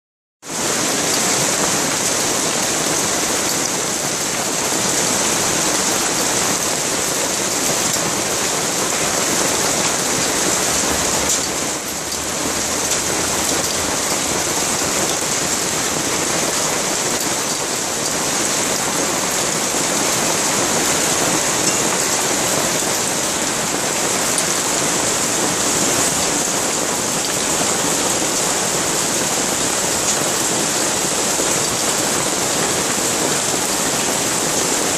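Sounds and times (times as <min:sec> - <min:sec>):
hail and heavy rain on paving: 0:00.4 - 0:34.9.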